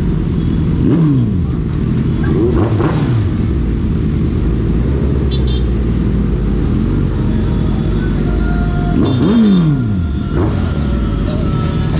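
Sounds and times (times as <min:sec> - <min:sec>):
motorcycle exhaust while riding: 0:00.0 - 0:11.9.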